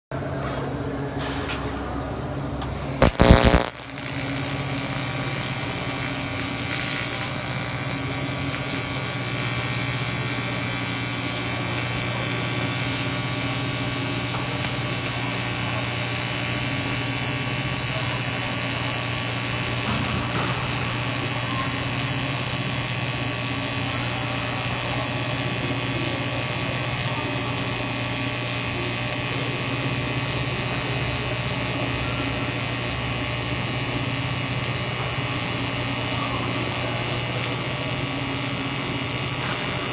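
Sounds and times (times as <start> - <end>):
welding arc buzz with hiss: 2.6 - 39.9
welding arc crackle: 2.6 - 39.9.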